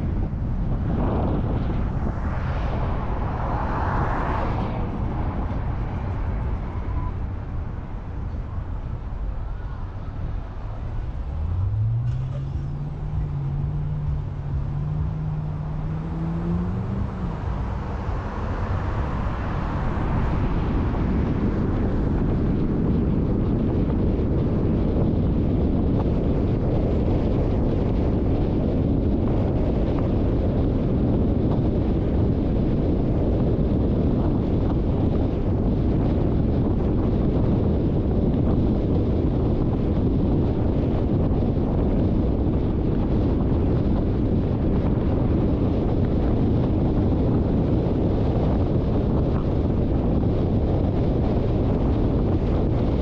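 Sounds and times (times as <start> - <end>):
road and tyre noise: 0.0 - 53.0
vehicle engine accelerating: 0.0 - 53.0.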